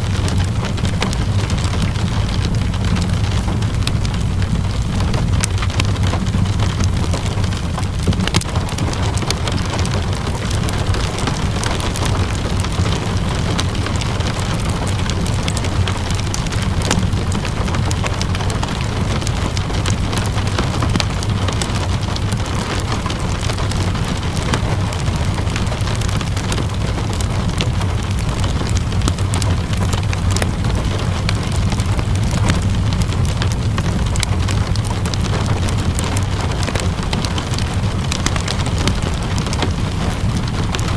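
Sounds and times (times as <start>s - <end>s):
deep constant rumble: 0.0s - 40.9s
steady rain hiss: 0.0s - 40.9s
wood fire crackling: 0.0s - 40.9s.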